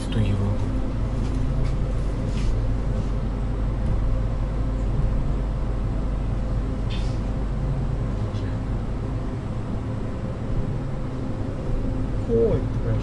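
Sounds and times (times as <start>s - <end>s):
train motor hum and rumble: 0.0s - 13.0s.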